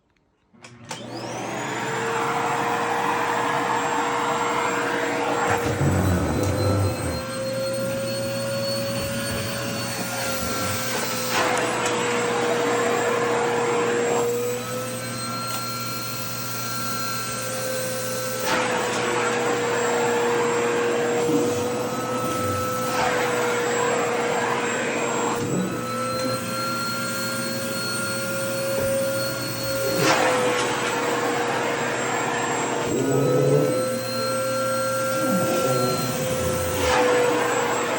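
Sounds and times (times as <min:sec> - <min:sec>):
vacuum cleaner running: 0:00.6 - 0:37.9.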